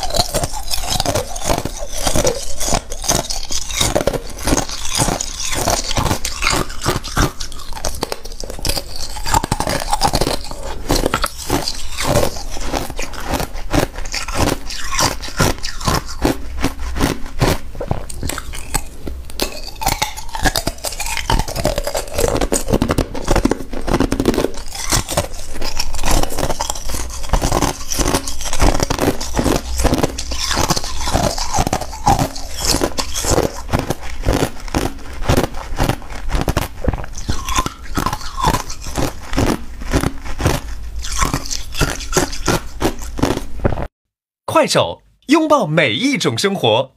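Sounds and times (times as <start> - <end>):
ice crunching while chewed: 0.0 - 43.9.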